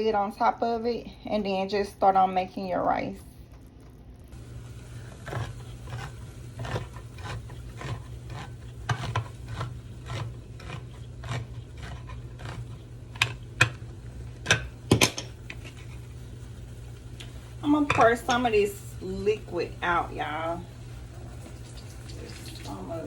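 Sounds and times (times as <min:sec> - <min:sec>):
utensil scraping a cooking pan: 0:04.4 - 0:23.0.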